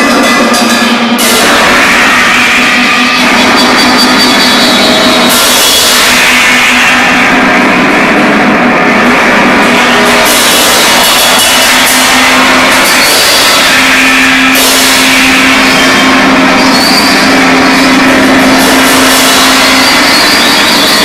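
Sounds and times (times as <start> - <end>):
distorted amplified noise: 0.0 - 21.0
low hum: 0.0 - 21.0.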